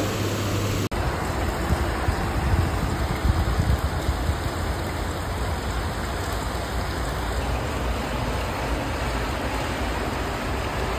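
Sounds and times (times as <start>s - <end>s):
heavy rain pouring: 0.0s - 10.9s.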